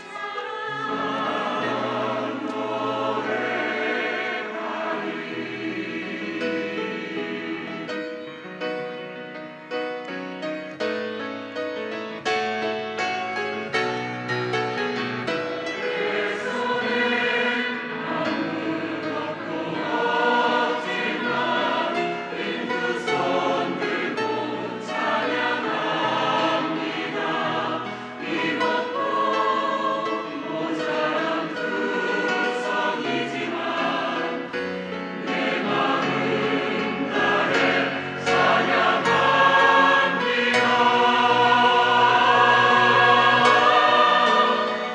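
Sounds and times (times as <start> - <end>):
choir singing: 0.0 - 8.9, 15.3 - 44.9.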